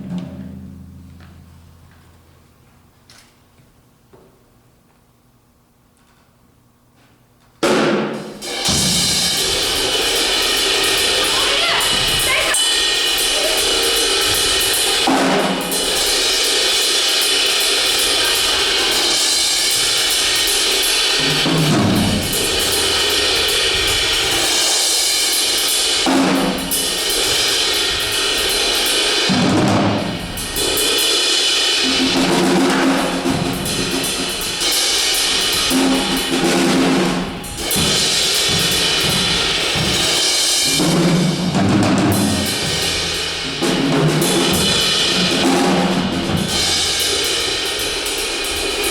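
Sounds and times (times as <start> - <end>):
low drum strokes and fills: 0.0 - 2.3, 7.6 - 48.9
cymbal wash: 8.4 - 48.9.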